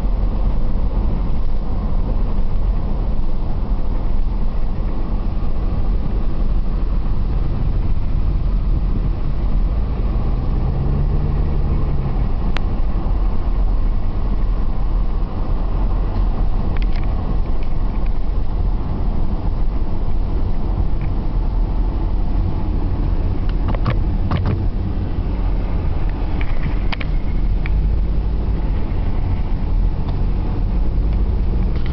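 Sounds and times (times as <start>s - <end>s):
car engine and road noise in cabin: 0.0s - 31.9s.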